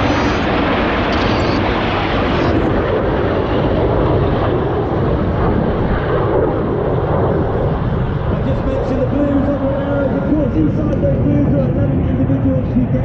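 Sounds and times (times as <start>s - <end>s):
jet aircraft roaring overhead: 0.0s - 13.0s.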